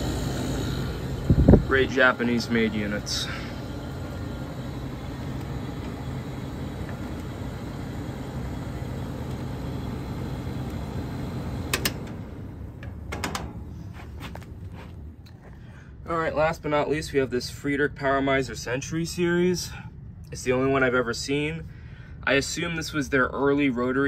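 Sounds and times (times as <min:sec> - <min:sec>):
air conditioner running: 0:00.0 - 0:24.0.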